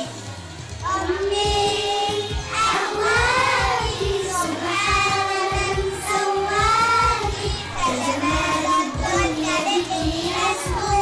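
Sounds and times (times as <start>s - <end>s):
music backing with steady beat: 0.0s - 11.0s
children singing together: 0.8s - 11.0s.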